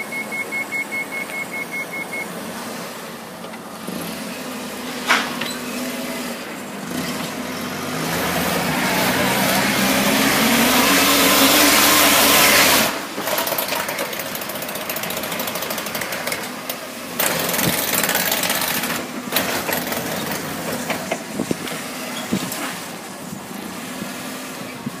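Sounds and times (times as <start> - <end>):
forklift engine revving: 0.0 - 25.0.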